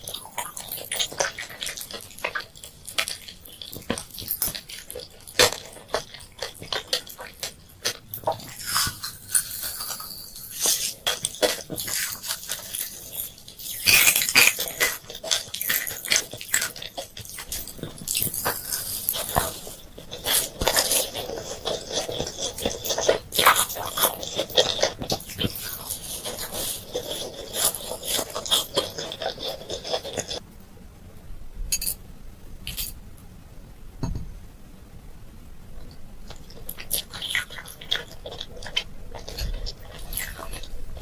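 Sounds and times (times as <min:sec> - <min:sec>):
candy crunching and chewing: 0:00.0 - 0:30.4, 0:36.2 - 0:41.0.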